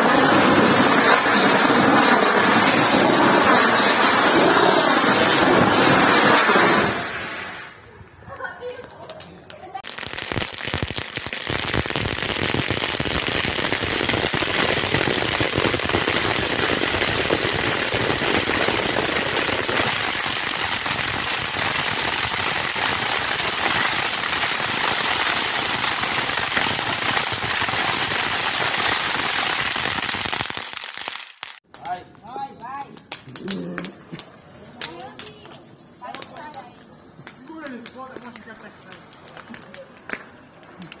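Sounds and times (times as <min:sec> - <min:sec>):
firecrackers crackling: 0:00.0 - 0:41.0.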